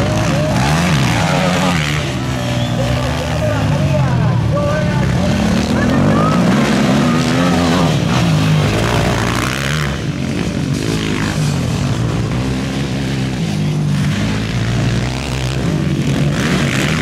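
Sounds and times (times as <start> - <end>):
atv engines revving: 0.0 - 17.0.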